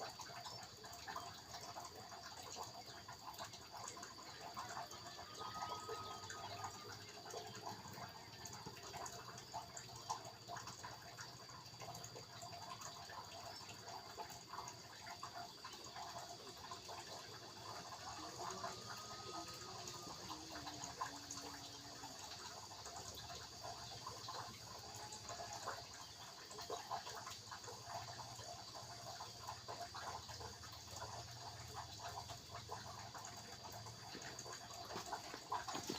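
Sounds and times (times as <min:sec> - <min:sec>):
water trickling and dripping: 0:00.0 - 0:35.9.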